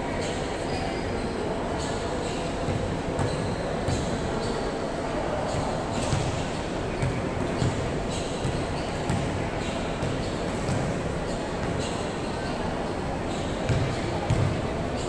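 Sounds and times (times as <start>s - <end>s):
faint voices: 0.0s - 15.0s
large hall noise: 0.0s - 15.0s.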